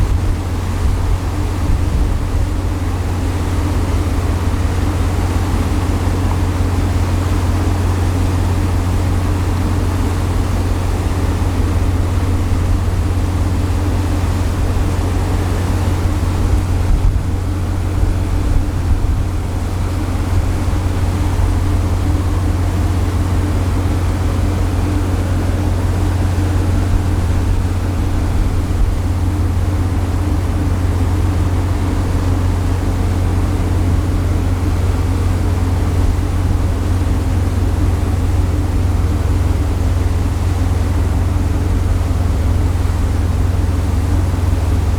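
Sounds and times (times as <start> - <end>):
ship engine drone: 0.0 - 44.9
wind and water rushing: 0.0 - 44.9.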